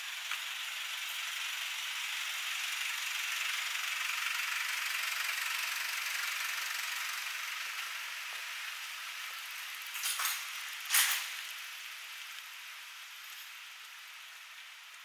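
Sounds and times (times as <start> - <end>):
traffic hiss: 0.0 - 15.0.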